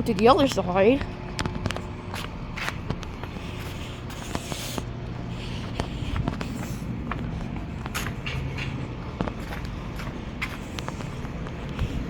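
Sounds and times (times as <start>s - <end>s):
footsteps walking: 0.0s - 12.0s
vehicle engine hum: 0.0s - 12.0s.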